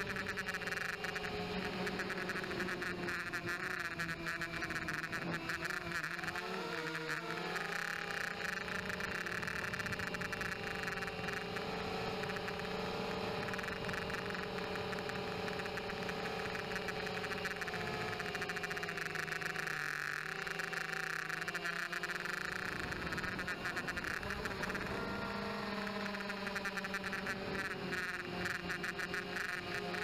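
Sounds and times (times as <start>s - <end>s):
quadcopter propellers whirring: 0.0s - 30.0s.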